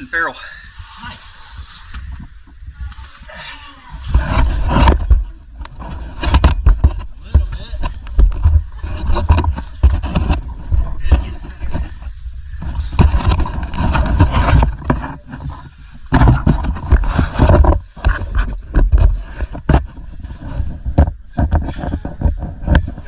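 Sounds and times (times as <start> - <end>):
rubbing and scraping on microphone: 0.0 - 23.0
person scrambling over rock: 2.0 - 23.0.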